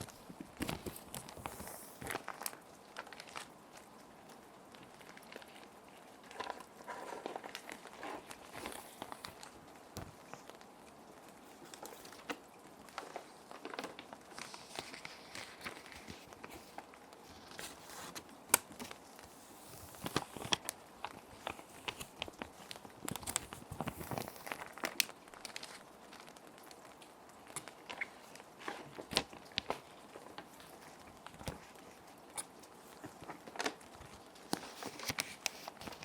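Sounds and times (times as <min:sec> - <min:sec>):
plastic sleeves crinkling: 0:00.0 - 0:36.0
soft rain: 0:00.0 - 0:36.0.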